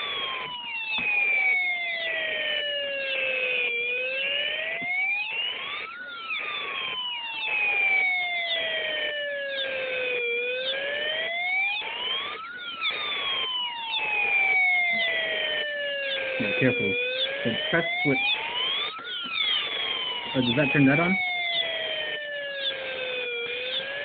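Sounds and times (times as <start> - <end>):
electronic siren wailing: 0.0 - 24.0.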